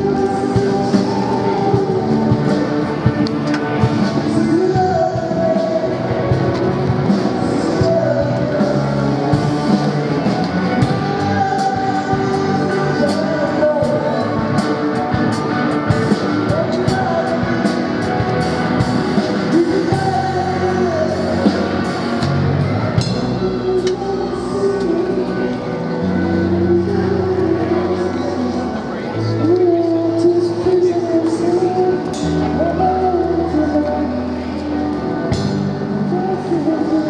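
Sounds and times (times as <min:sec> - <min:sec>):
electric guitar: 0:00.0 - 0:37.0
person singing lead vocal: 0:00.0 - 0:37.0.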